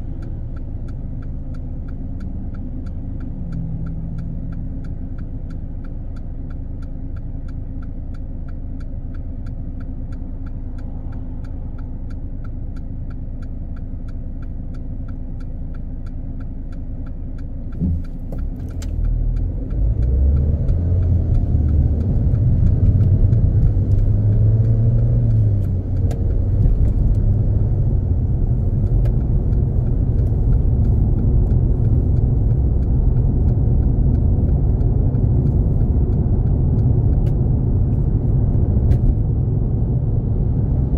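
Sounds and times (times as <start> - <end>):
car accelerating with road noise: 0.0 - 40.9
car engine idling: 0.0 - 40.9
regular ticking: 0.0 - 40.9.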